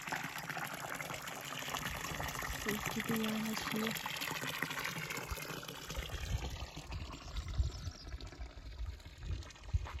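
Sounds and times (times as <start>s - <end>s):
water pouring into stone trough: 0.0s - 10.0s.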